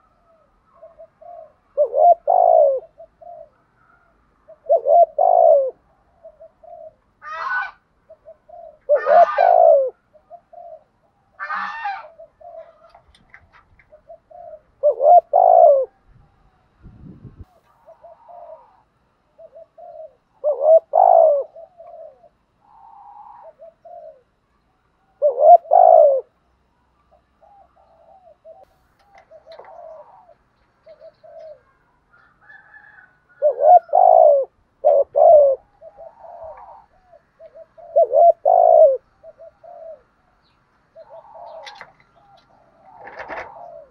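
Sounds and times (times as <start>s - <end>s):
doves cooing: 0.0s - 16.8s, 17.5s - 43.9s.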